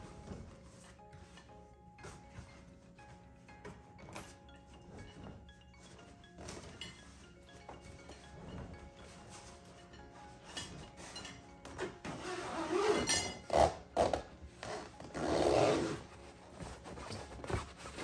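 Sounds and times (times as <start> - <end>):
fabric rustling and rubbing: 0.0 - 13.1, 14.4 - 18.0
soft background music: 0.0 - 18.0.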